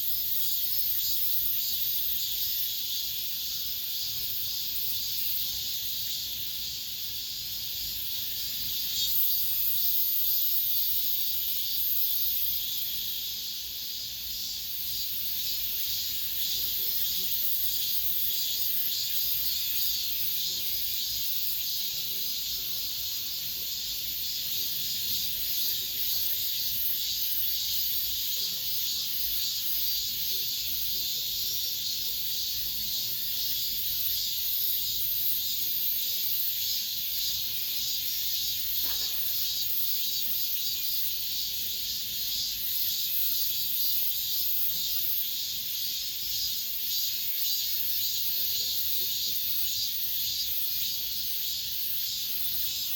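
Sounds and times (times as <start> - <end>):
cicadas buzzing: 0.0 - 52.9.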